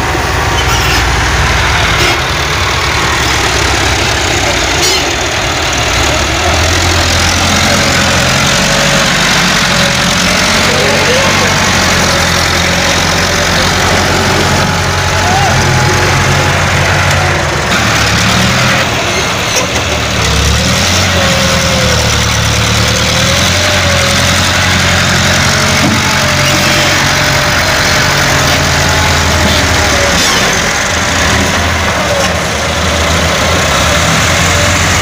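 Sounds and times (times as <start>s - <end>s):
diesel tractor engine running: 0.0s - 35.0s.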